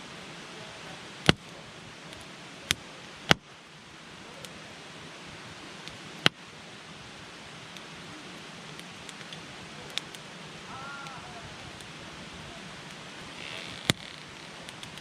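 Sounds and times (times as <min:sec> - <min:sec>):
campfire crackling and hissing: 0:00.0 - 0:15.0.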